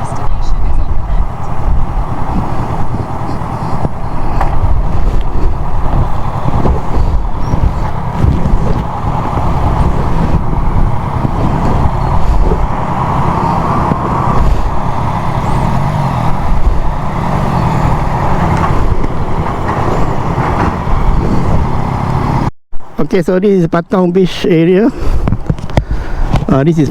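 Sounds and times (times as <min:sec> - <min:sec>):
motorcycle running: 0:00.0 - 0:22.5
wind buffeting microphone: 0:00.0 - 0:22.5, 0:25.0 - 0:26.9
traffic: 0:00.0 - 0:26.9.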